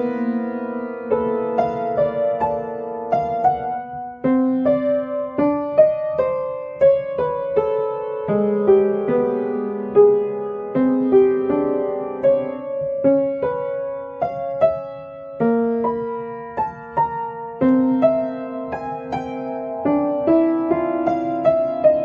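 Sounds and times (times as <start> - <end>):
slow gentle solo piano: 0.0 - 22.0.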